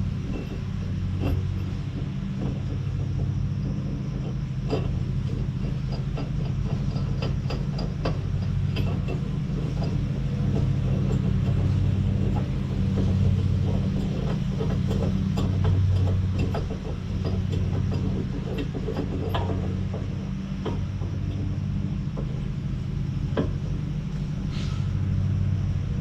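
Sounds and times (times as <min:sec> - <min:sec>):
metallic clicks and knocks: 0:00.0 - 0:25.2
tractor engine idling: 0:00.0 - 0:26.0.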